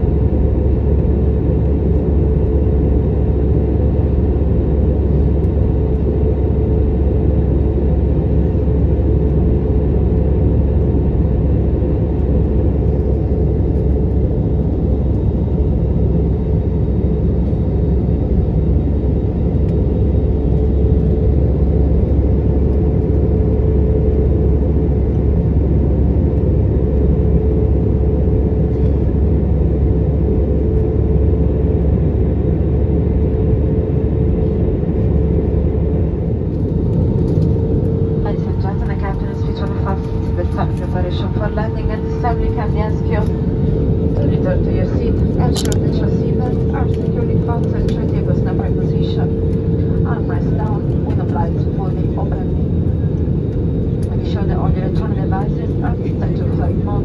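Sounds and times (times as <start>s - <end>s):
airplane cabin rumble: 0.0s - 57.0s
steady hum: 0.0s - 57.0s.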